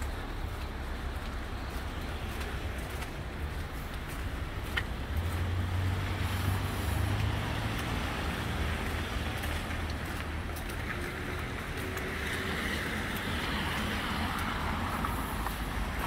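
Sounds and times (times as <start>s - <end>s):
low traffic rumble: 0.0s - 16.0s
steady street hum: 0.0s - 16.0s.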